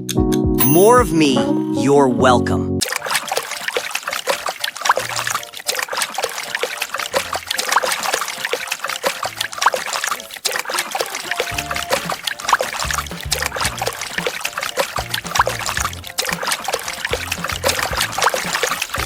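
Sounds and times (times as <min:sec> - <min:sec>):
water bubbling and trickling: 0:02.8 - 0:19.0.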